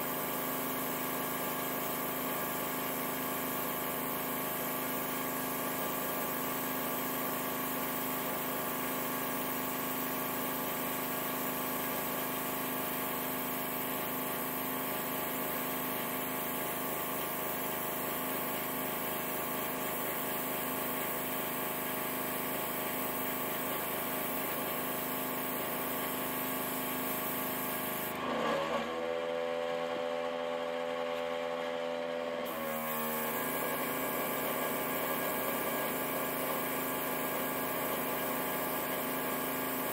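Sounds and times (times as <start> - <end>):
airbrush compressor humming: 0.0 - 28.2, 32.4 - 39.9.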